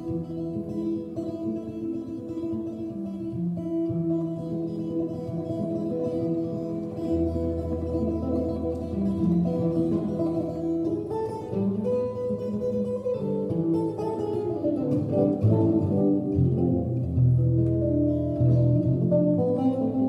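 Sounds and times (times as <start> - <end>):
solo guitar instrumental: 0.0 - 20.0.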